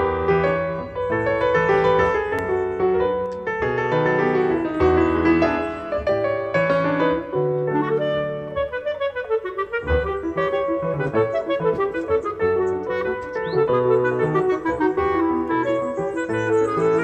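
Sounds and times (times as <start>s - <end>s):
held melody notes: 0.0s - 17.0s
piano background music: 0.0s - 17.0s.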